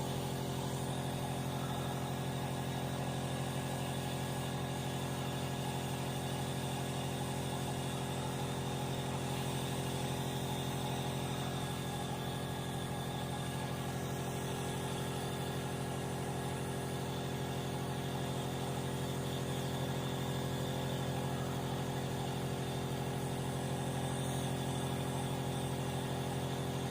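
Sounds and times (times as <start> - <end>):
motor hum: 0.0 - 26.9.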